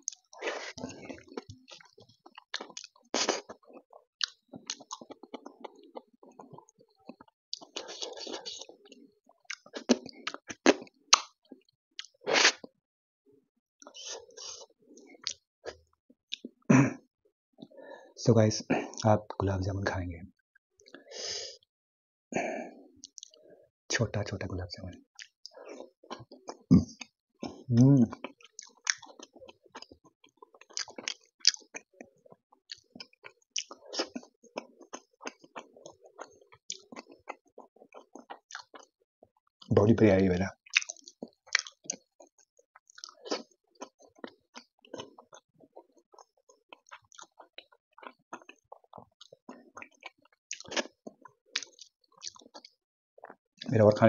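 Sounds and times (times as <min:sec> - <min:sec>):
wet chewing and lip smacks: 0:00.0 - 0:12.7, 0:13.8 - 0:16.6, 0:23.0 - 0:23.4, 0:25.1 - 0:39.6, 0:40.6 - 0:53.7.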